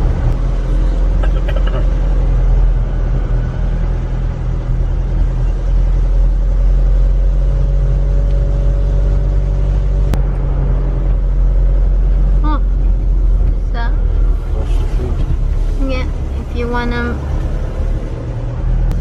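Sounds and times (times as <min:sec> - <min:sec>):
car engine drone: 0:00.0 - 0:19.0
road noise: 0:00.0 - 0:19.0.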